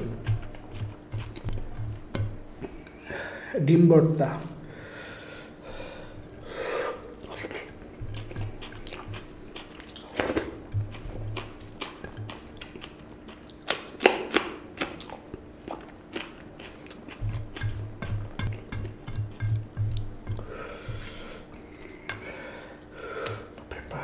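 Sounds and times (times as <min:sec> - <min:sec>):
man chewing with wet smacks: 0:00.0 - 0:03.0, 0:06.2 - 0:24.0.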